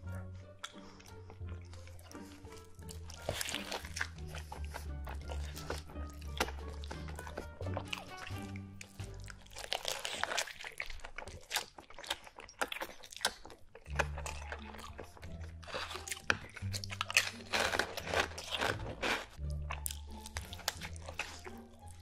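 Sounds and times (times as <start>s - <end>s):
background music with low bass: 0.0s - 10.5s, 13.8s - 22.0s
crunchy bites and chewing: 0.0s - 22.0s.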